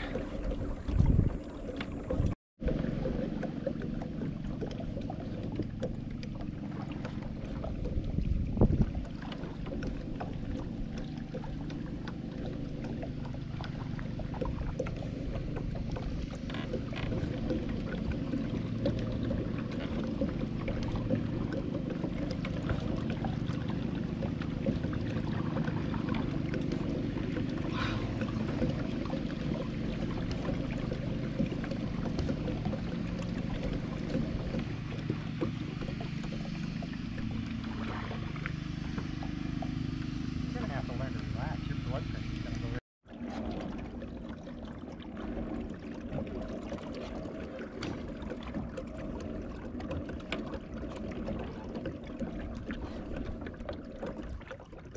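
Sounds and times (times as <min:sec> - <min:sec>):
low steady rumble: 0:00.0 - 0:54.9
paddle dipping in water: 0:00.0 - 0:54.9
water trickling and gurgling: 0:00.0 - 0:54.9.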